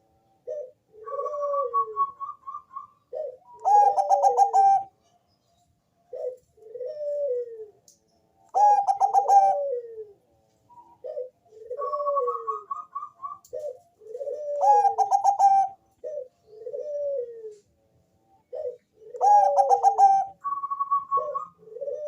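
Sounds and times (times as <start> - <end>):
dove cooing: 0.0 - 5.0, 6.1 - 7.8, 8.5 - 17.7, 18.3 - 22.0.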